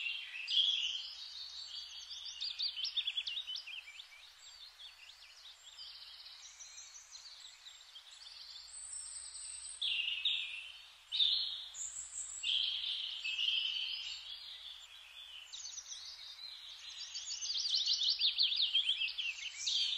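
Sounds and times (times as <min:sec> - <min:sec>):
birds chirping and singing: 0:00.0 - 0:19.9.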